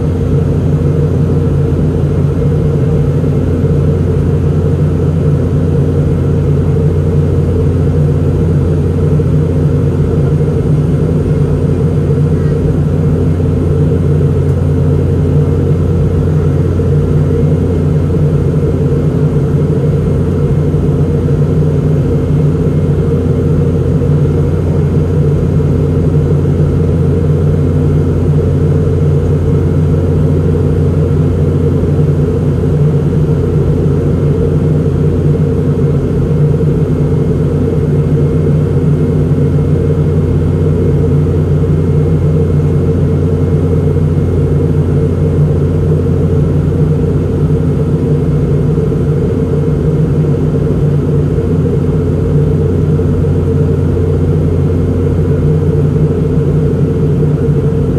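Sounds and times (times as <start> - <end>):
airplane cabin rumble: 0.0 - 57.9
low hums: 0.0 - 57.9.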